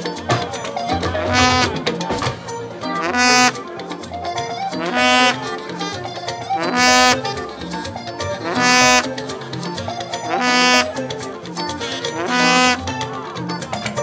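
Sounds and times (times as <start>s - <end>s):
band music: 0.0s - 14.0s.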